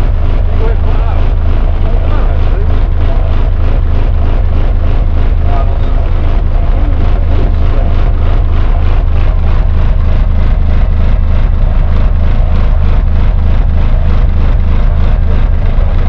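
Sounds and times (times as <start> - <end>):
pulsing loud bass note: 0.0 - 16.0.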